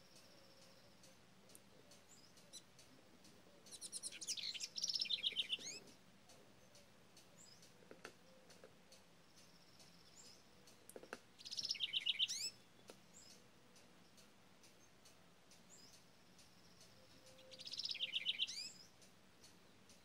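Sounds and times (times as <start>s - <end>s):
faint ticks: 0.0s - 20.0s
wren song trills: 0.0s - 20.0s.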